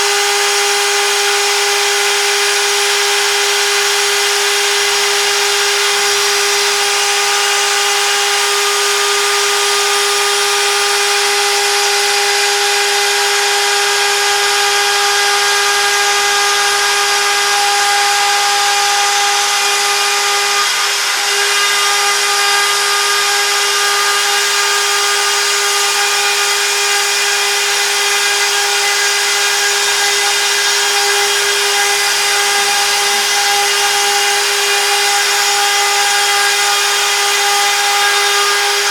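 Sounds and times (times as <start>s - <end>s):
cnc router spindle whine: 0.0s - 38.9s.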